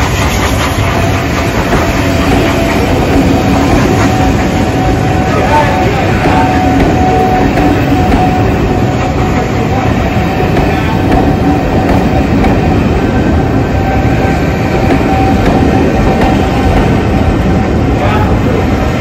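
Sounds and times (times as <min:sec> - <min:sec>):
clickety-clack over rail joints: 0:00.0 - 0:19.0
train wheels rumbling on rails: 0:00.0 - 0:19.0.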